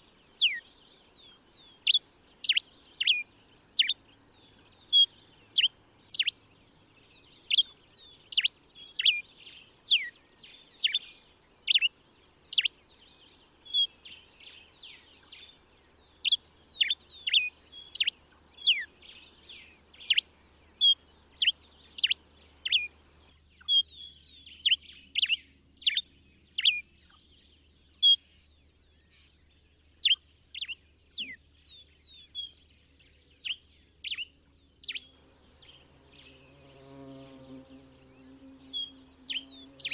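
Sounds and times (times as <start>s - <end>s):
finch singing whistled notes: 0.0s - 39.9s.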